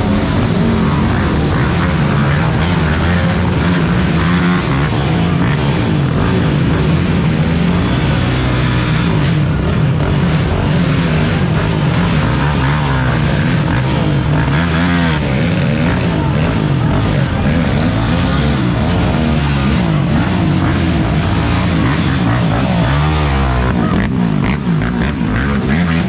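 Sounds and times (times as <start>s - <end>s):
quad bike engines revving: 0.0s - 26.0s.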